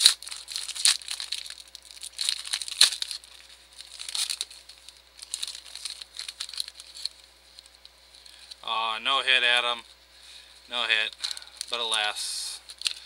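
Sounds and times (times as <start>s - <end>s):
plastic wrapper tearing: 0.0s - 8.6s, 11.0s - 13.0s.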